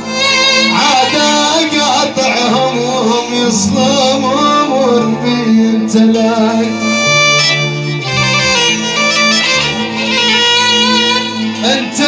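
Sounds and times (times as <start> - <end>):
held bass notes: 0.0 - 12.0
ornamented instrumental melody: 0.0 - 12.0.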